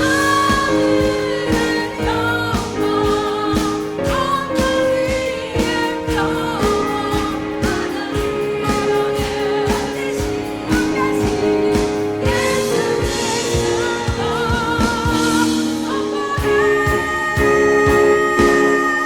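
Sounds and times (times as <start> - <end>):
accompaniment with steady beat: 0.0 - 19.0
vocal ensemble singing a carol: 0.0 - 19.0.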